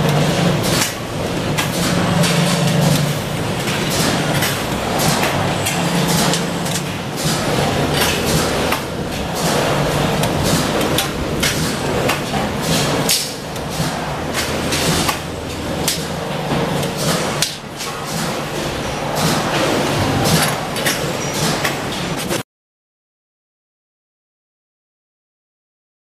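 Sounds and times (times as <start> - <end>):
steady machine hum: 0.0 - 22.4.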